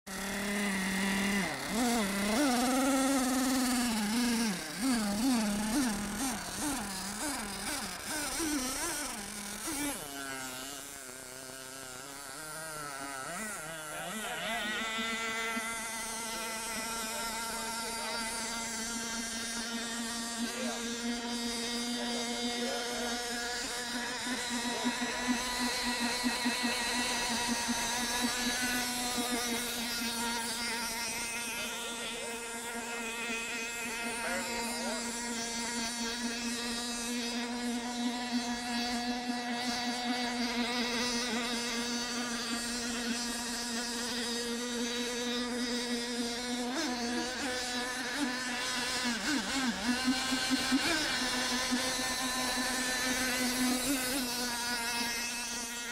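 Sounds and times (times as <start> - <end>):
small boat engine buzzing: 0.0 - 55.9.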